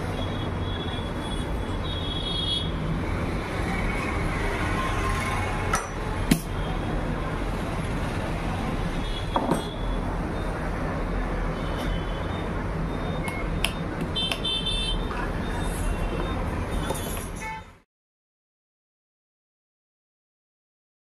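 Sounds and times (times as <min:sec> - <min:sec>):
street traffic: 0:00.0 - 0:17.9.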